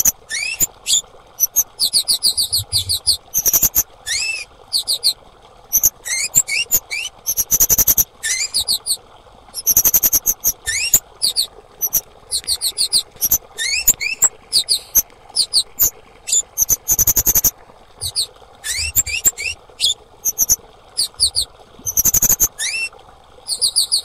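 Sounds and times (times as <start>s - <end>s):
insect chirping calls: 0.0s - 9.0s, 9.6s - 22.9s.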